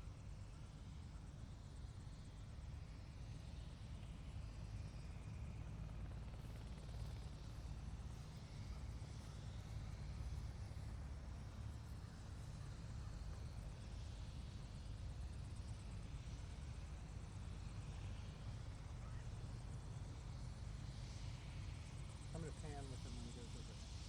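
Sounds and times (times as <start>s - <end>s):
helicopter rumbling: 0.4s - 20.5s, 21.6s - 24.0s.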